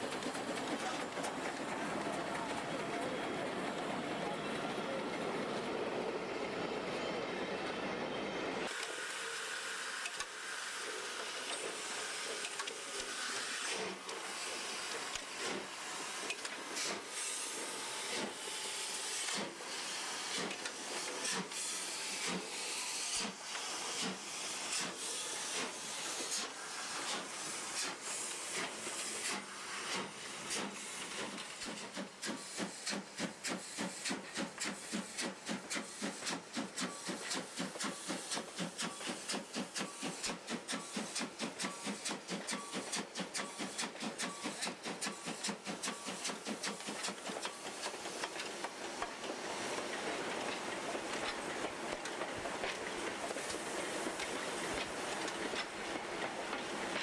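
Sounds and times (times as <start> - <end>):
steam hissing: 8.6 - 57.0
steam locomotive exhaust chuffs: 8.7 - 57.0.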